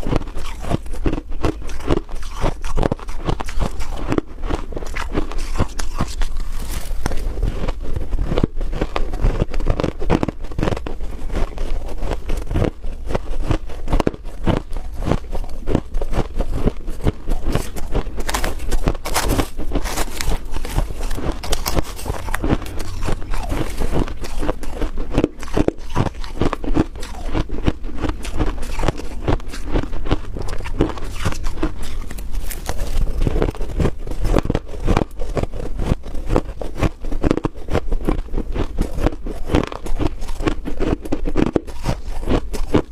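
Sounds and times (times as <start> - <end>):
person chewing frost crunchily: 0.0 - 42.9.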